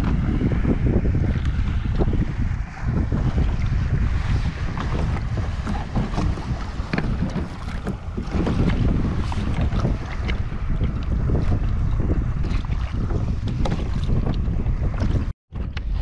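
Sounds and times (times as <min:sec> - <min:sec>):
water splashing against kayak: 0:00.0 - 0:16.0
wind buffeting microphone: 0:00.0 - 0:16.0.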